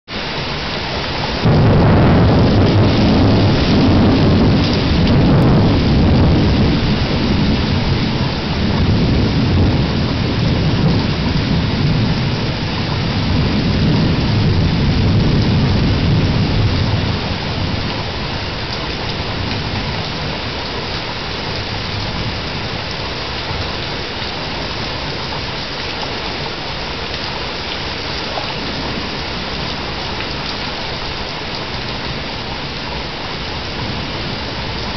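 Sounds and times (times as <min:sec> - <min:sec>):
heavy rain: 0:00.1 - 0:34.9
rolling thunder: 0:00.5 - 0:25.6, 0:26.2 - 0:32.5, 0:33.4 - 0:34.9.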